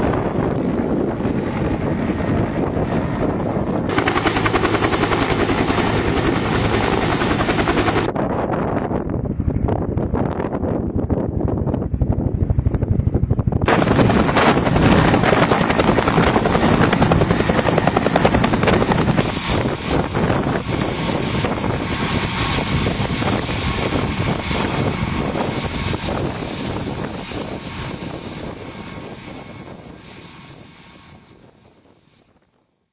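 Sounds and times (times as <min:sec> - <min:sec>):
helicopter rotor chopping: 0:00.0 - 0:08.2, 0:11.3 - 0:32.0
high turbine whine: 0:00.0 - 0:08.3, 0:12.0 - 0:32.3.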